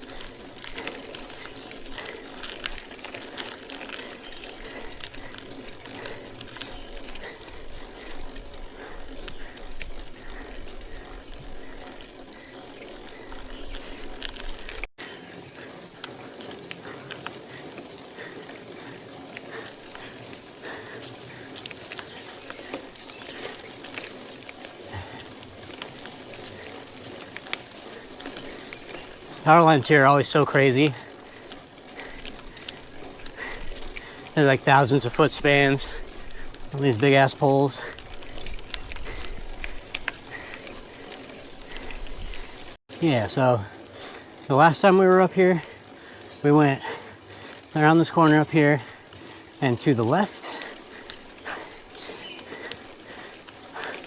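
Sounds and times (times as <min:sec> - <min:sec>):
bicycle clicks and rattles: 0:00.0 - 0:54.0
bicycle riding on road: 0:00.0 - 0:54.0.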